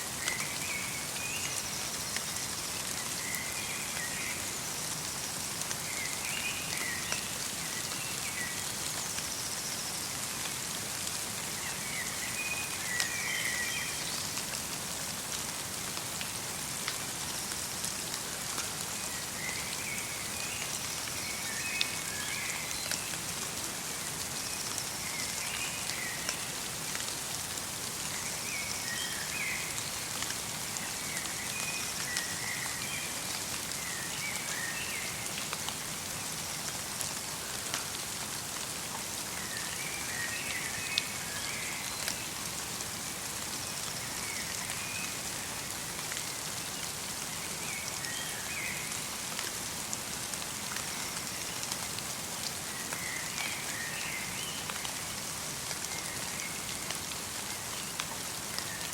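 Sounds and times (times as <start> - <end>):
rain and snow pattering: 0.0 - 58.9.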